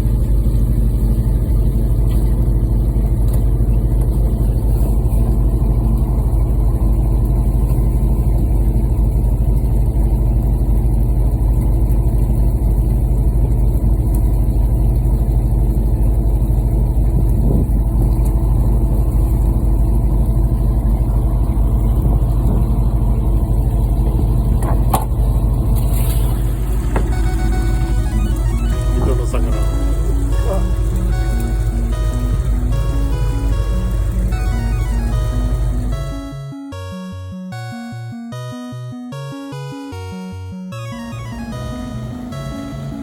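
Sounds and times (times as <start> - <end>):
boat engine running: 0.0 - 43.0.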